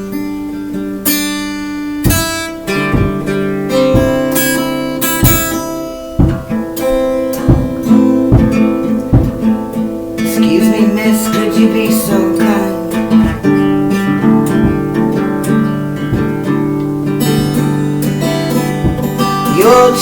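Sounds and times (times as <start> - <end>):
acoustic guitar strummed chords: 0.0 - 20.0.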